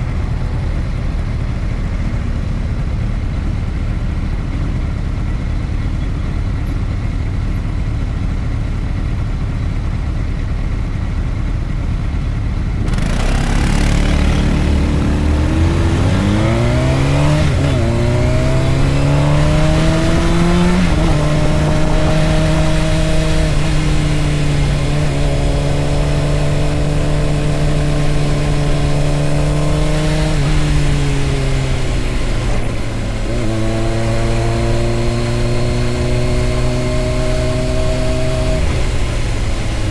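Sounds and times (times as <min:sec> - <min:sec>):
low engine rumble: 0:00.0 - 0:34.7
motorcycle accelerating: 0:00.0 - 0:39.9.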